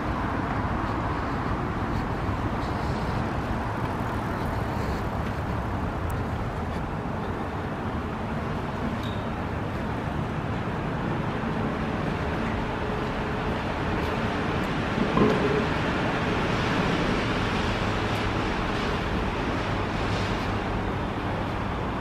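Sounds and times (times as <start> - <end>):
city road traffic rumble: 0.0 - 22.0.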